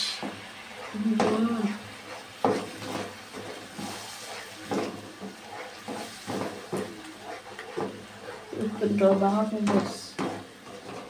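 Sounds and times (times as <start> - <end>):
sauce sizzling: 0.0 - 11.0
spatula scraping a wok: 0.0 - 11.0.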